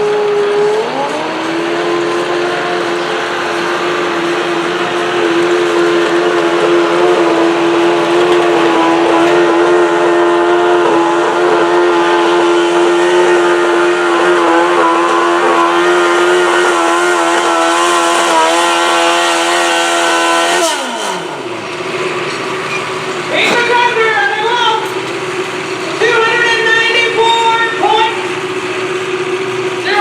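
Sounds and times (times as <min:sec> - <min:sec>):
tractor engine screaming: 0:00.0 - 0:30.0.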